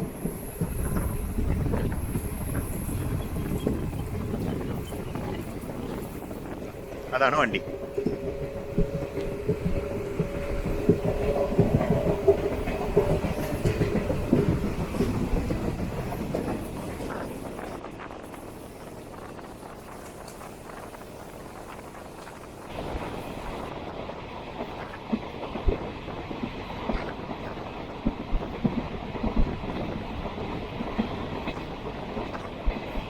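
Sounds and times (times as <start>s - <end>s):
train drone: 0.0s - 33.0s
train wheels clicking over rail joints: 0.0s - 33.0s.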